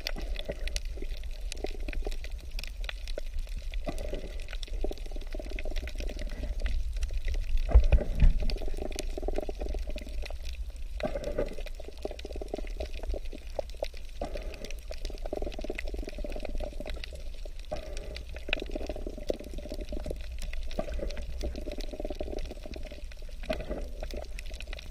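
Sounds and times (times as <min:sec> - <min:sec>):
underwater air bubbles gurgling: 0:00.0 - 0:24.9.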